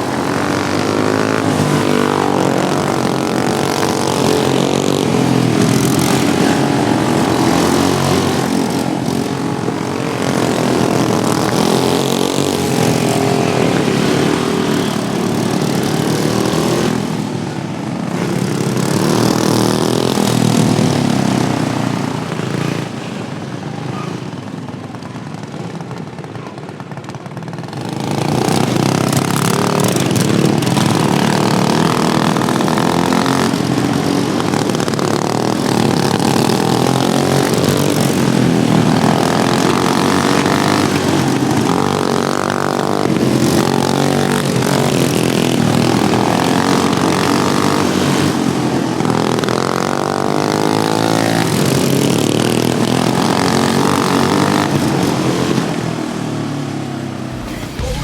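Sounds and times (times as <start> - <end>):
racing lawnmower engines: 0.0 - 58.0.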